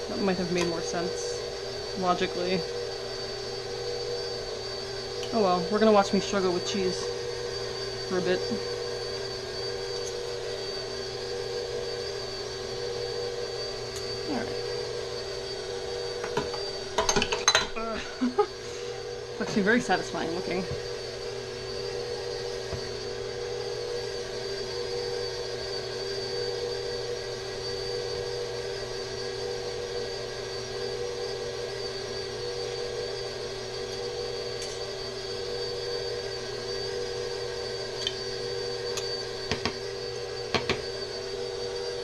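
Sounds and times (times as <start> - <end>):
electric mixer running: 0.0 - 42.0.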